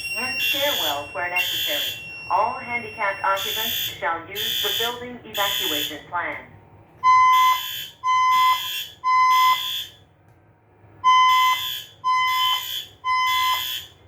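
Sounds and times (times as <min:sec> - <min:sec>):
fire alarm tone blasts: 0:00.0 - 0:06.1, 0:07.0 - 0:10.0, 0:11.0 - 0:14.0.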